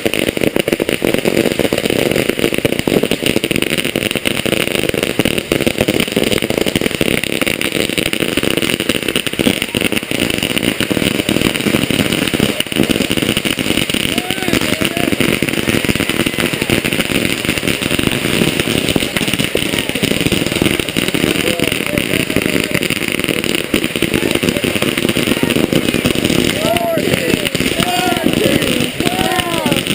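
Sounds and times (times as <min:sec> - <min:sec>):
firecrackers crackling and popping: 0:00.0 - 0:29.9.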